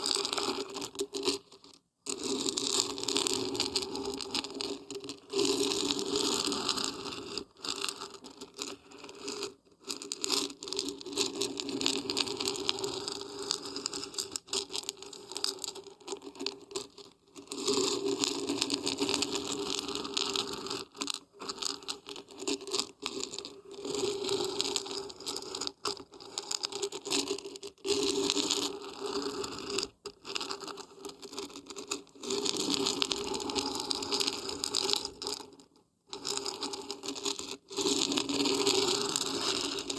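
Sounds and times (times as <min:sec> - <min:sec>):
dried beans rattling: 0:00.0 - 0:27.5, 0:28.2 - 0:39.9.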